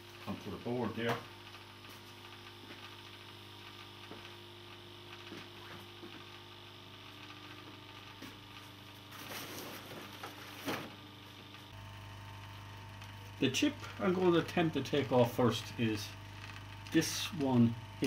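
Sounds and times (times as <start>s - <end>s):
mains hum: 0.0s - 18.0s.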